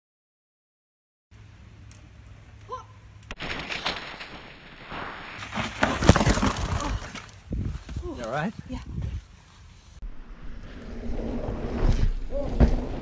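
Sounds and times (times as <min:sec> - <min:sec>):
bike tyres on dirt: 0:01.4 - 0:13.0.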